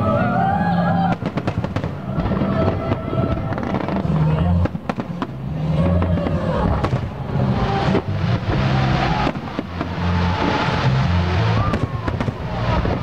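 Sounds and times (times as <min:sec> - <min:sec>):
low rumble: 0:00.0 - 0:13.0
fireworks bangs: 0:01.0 - 0:13.0.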